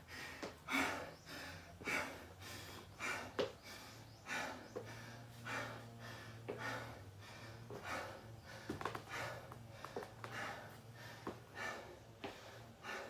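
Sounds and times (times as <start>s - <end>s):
man breathing hard: 0.0s - 13.0s.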